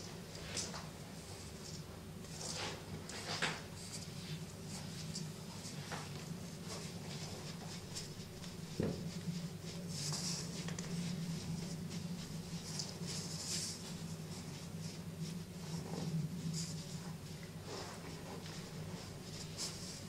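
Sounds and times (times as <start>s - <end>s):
low steady hum: 0.0s - 20.0s
cloth puppets rustling: 3.8s - 20.0s.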